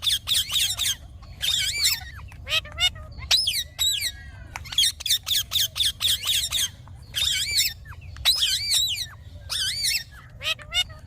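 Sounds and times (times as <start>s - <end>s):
parakeet squawking: 0.0s - 11.0s.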